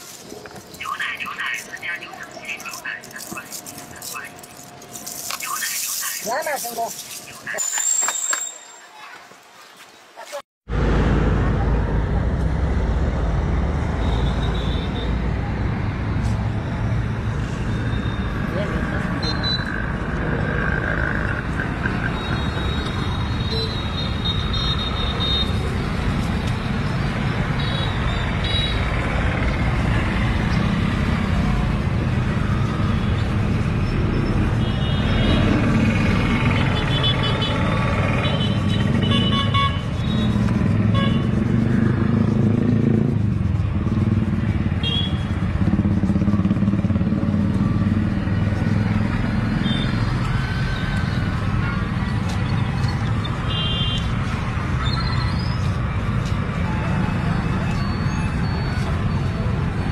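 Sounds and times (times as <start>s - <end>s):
street traffic: 0.0s - 59.9s.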